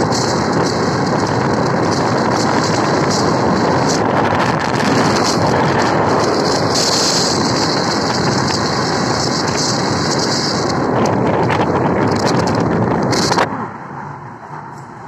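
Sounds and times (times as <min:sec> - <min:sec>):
wind rushing over microphone: 0:00.0 - 0:13.8
road and traffic noise: 0:00.0 - 0:15.0.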